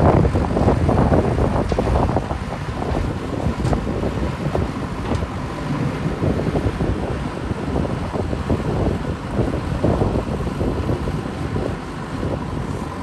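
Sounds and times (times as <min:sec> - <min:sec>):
diesel engine running: 0:00.0 - 0:13.0
wind buffeting microphone: 0:00.0 - 0:13.0.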